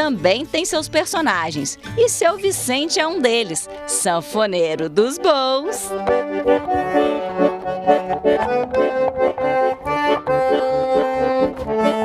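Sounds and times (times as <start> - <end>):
accordion playing a tune: 0.0 - 12.0.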